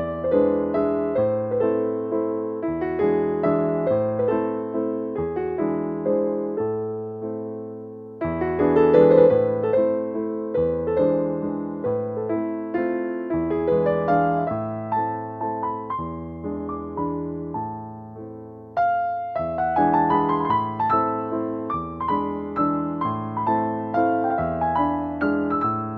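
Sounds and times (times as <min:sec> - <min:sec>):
gentle piano melody: 0:00.0 - 0:25.9.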